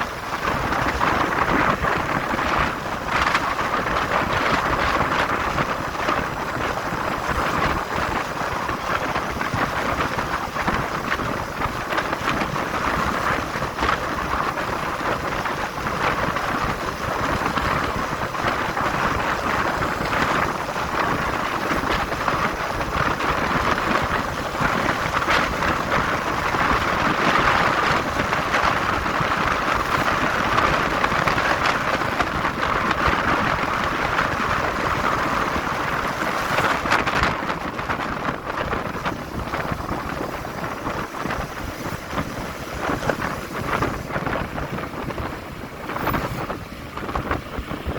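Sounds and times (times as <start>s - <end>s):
wind and road noise: 0.0s - 47.9s
wind buffeting microphone: 0.0s - 47.9s.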